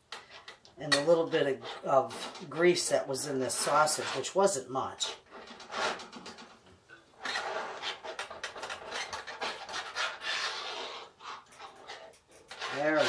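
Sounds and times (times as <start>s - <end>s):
utensil scraping a skillet: 0.1s - 13.0s.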